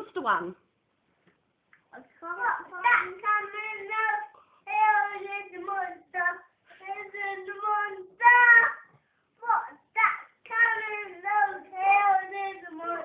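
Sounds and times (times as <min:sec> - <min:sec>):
child singing: 0:02.2 - 0:13.0.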